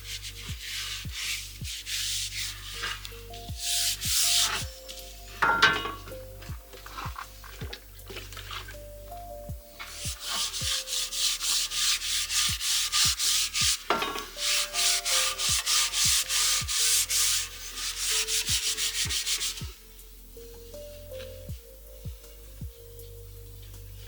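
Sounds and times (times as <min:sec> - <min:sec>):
cloth rubbing a wooden handle: 0:00.0 - 0:08.9, 0:09.8 - 0:21.5.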